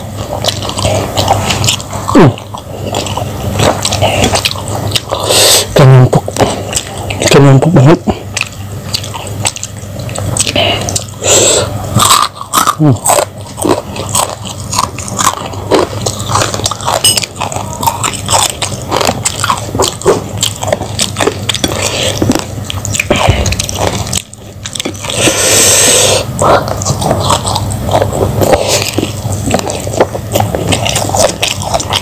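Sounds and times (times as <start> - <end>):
chewing crunchy food: 0.0 - 32.0
wet mouth sounds: 0.0 - 32.0.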